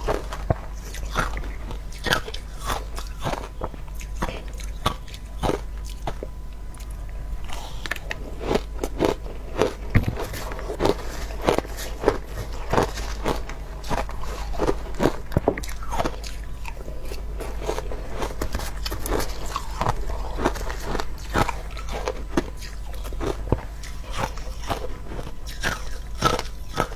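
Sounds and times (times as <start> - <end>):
crunching of shaved ice: 0.0 - 6.2, 6.8 - 26.9.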